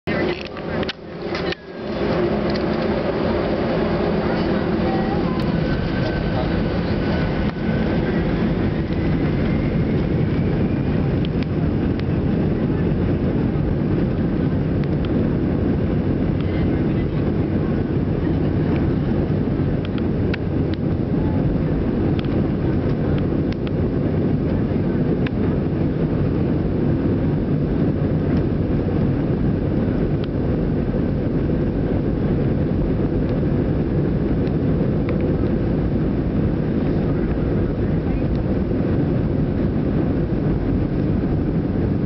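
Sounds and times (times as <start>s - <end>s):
jet engine cabin rumble: 0.0s - 42.0s.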